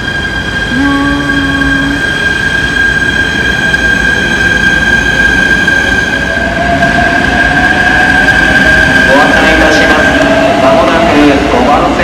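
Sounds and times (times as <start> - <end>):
electric train whining: 0.0 - 12.0.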